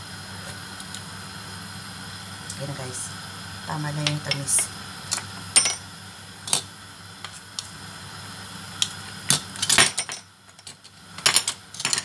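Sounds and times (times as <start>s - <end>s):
water boiling hard in a saucepan: 0.0s - 11.9s.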